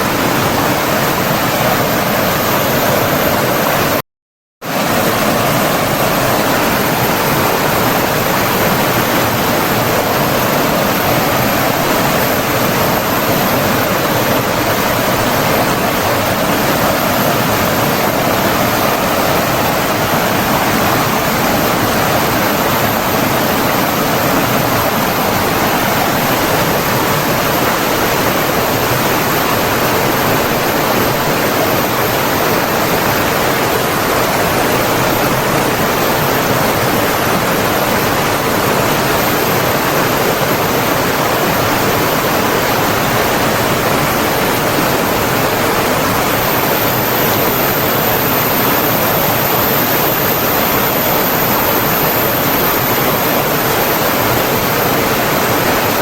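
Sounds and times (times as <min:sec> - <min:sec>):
flowing water rushing: 0:00.0 - 0:04.0, 0:04.7 - 0:56.0.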